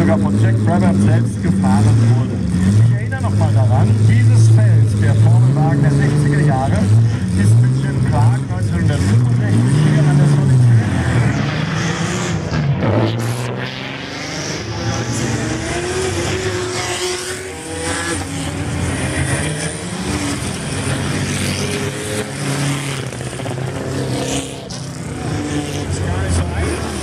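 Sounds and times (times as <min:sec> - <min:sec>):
race car engines revving: 0:00.0 - 0:27.0.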